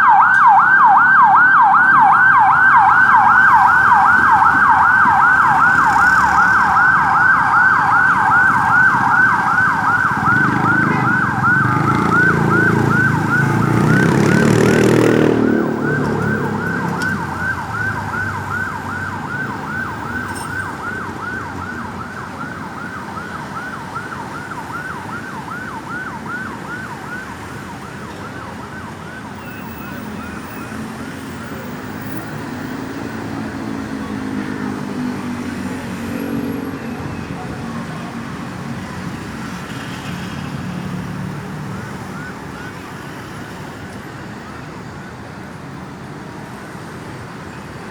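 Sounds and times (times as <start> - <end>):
ambulance siren yelping: 0.0 - 45.3
vehicle road noise: 0.0 - 47.9.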